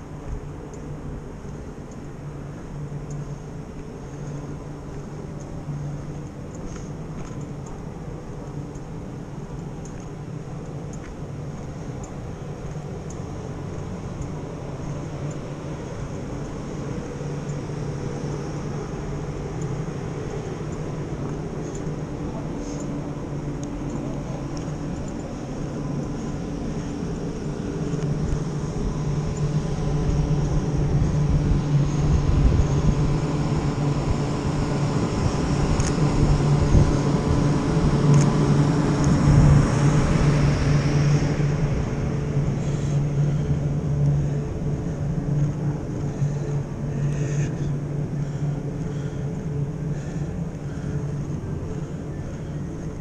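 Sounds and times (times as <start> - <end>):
traffic engine drone: 0.0 - 53.0.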